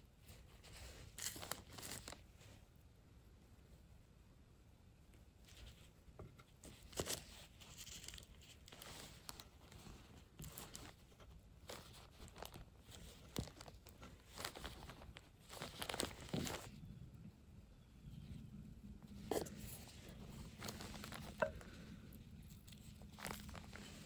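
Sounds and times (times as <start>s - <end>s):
hands handling small materials: 0.1s - 2.8s, 5.1s - 17.0s, 18.1s - 24.0s.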